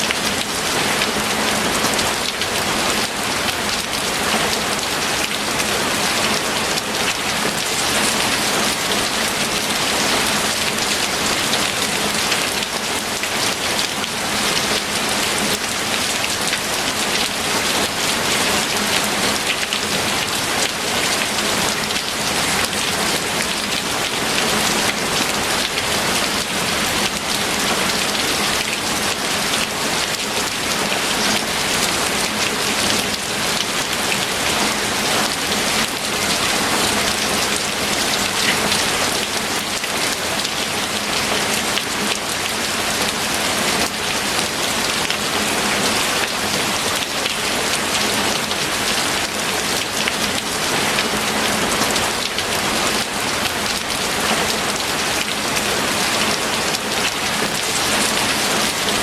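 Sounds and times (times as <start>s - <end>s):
heavy rain on hard surface: 0.0s - 59.0s.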